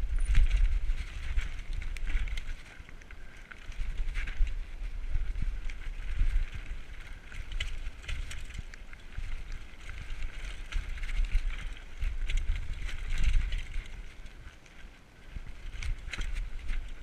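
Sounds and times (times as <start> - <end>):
bike chain and frame rattling: 0.0 - 17.0
tyres crunching over stones: 0.0 - 17.0
wind rumble on microphone: 0.0 - 17.0.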